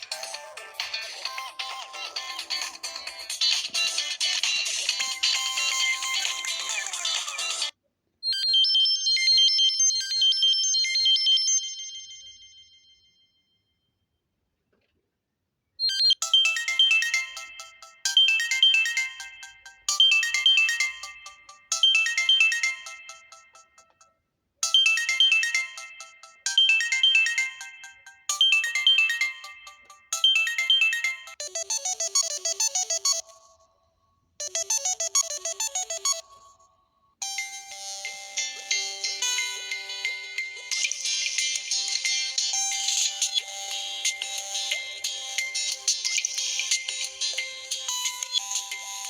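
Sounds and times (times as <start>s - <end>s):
phone ringtone melody: 0.0s - 7.7s, 8.3s - 13.1s, 15.8s - 33.7s, 34.4s - 49.0s.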